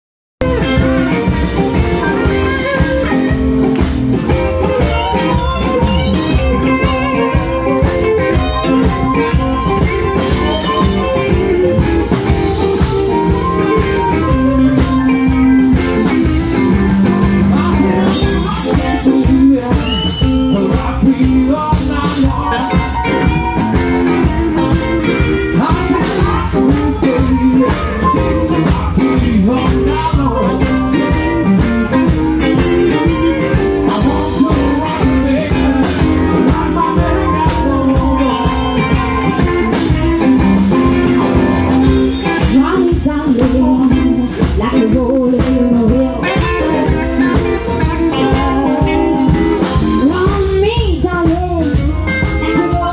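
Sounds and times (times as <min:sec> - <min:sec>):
bass: 0:00.4 - 0:52.9
drum kit: 0:00.4 - 0:52.9
electric guitars: 0:00.4 - 0:52.9.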